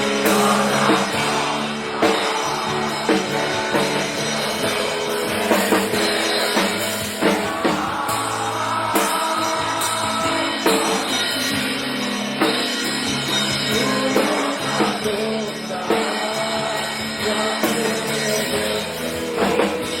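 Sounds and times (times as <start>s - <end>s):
song with drum-kit beat: 0.0s - 20.0s.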